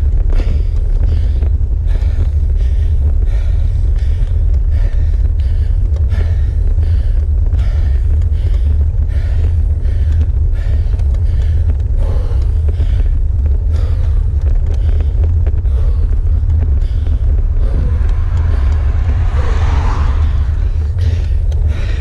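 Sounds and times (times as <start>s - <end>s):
person panting hard: 0.0s - 22.0s
wind rumble on microphone: 0.0s - 22.0s.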